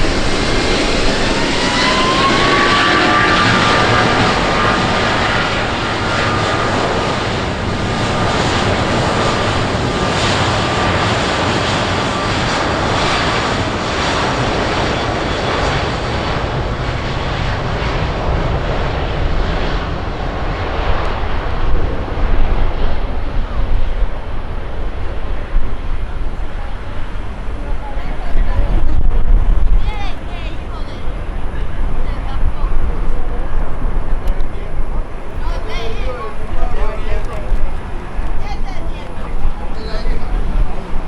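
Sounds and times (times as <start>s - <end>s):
airplane engine passing: 0.0s - 41.0s
wind buffeting microphone: 0.0s - 41.0s.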